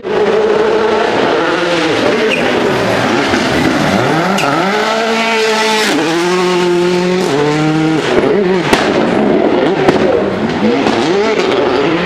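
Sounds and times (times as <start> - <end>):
rally car engine accelerating: 0.0 - 12.0
tyre and road noise: 0.0 - 12.0.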